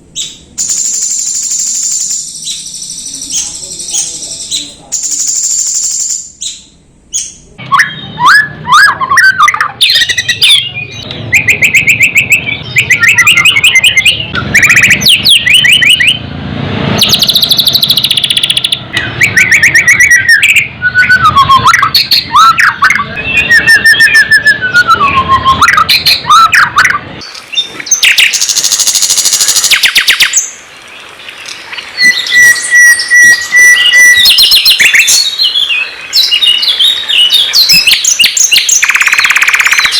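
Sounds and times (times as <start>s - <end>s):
songbird song: 0.0s - 39.9s.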